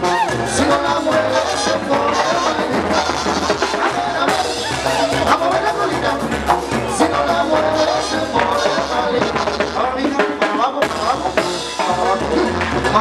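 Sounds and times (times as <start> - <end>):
brass band dance music: 0.0 - 13.0.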